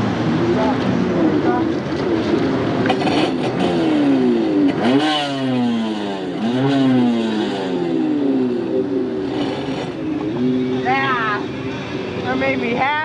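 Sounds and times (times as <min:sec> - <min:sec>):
jet ski engines revving: 0:00.0 - 0:13.0.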